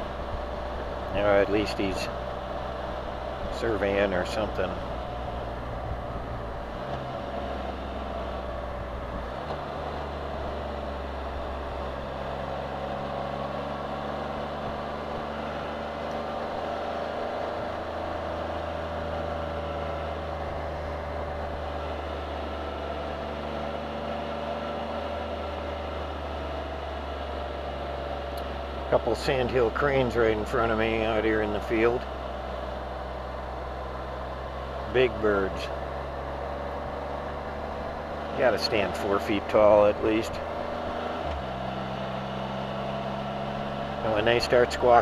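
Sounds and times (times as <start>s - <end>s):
motorcycle engine and road hum: 0.0s - 45.0s.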